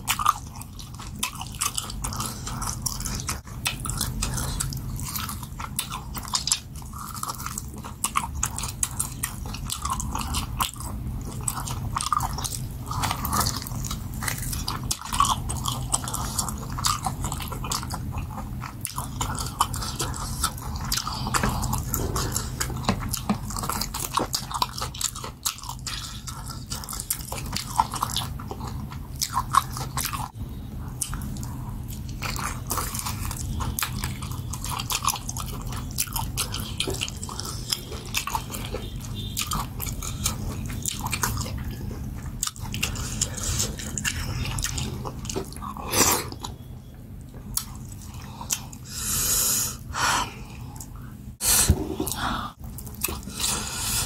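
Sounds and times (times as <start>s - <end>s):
chewing meat: 0.0s - 54.0s.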